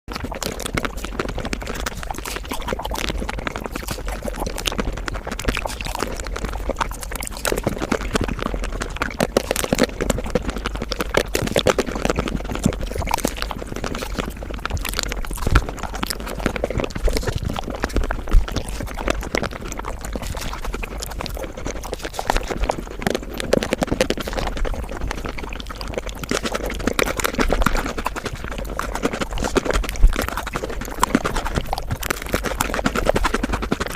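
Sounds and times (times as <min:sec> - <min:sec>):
sped-up chewing and slurping: 0:00.1 - 0:33.9.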